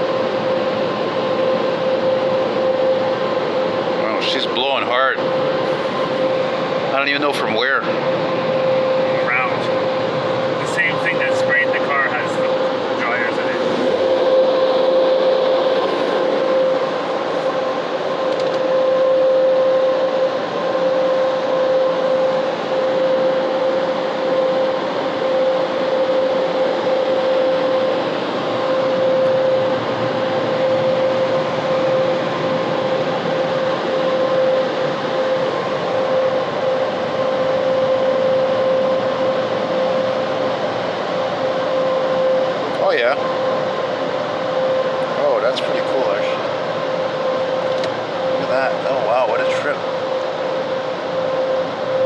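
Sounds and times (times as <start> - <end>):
air dryers blowing: 0.0 - 52.0.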